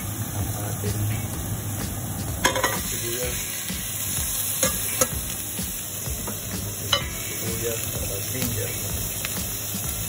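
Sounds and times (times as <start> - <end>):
garlic sizzling in hot oil: 0.0 - 10.0.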